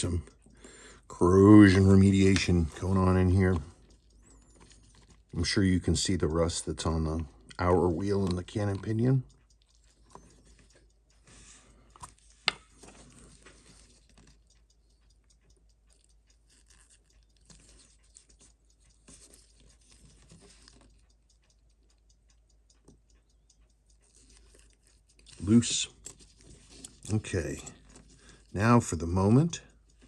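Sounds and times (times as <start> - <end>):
watch tools clicking and tapping: 0.0 - 30.0.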